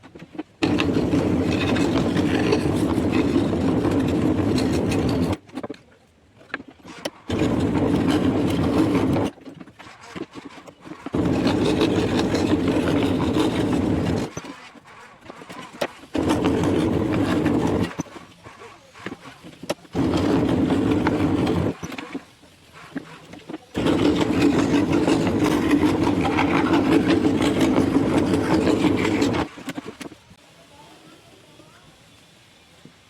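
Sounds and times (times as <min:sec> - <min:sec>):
scroll saw running: 0:00.6 - 0:05.4, 0:06.5 - 0:30.1.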